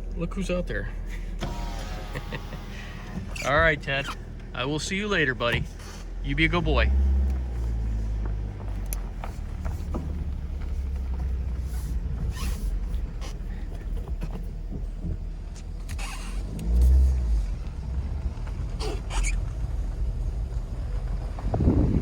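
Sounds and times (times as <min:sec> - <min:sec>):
car engine and road rumble: 0:00.0 - 0:22.0
low engine surge: 0:00.0 - 0:22.0.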